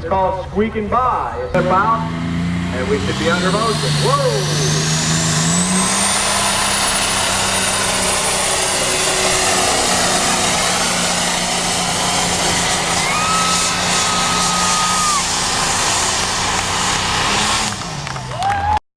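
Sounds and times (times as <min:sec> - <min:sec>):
diesel truck engine whining: 0:00.0 - 0:18.8.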